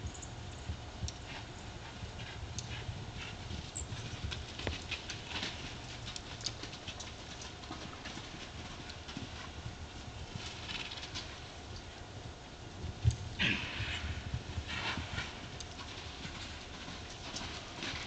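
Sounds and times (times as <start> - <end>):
wind rumble on microphone: 0.0 - 7.4, 8.5 - 18.0
horse hoofbeats galloping on dirt: 0.0 - 18.0.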